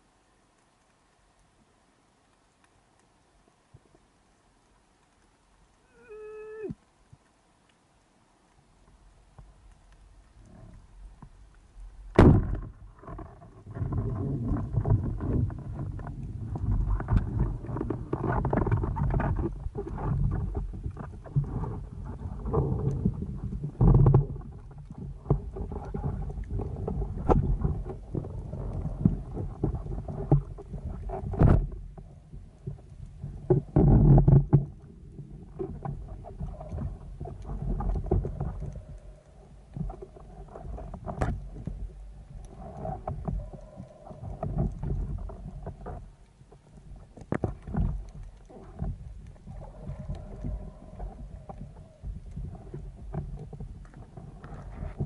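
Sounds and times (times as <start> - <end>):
underwater water movement: 0.0 - 55.0.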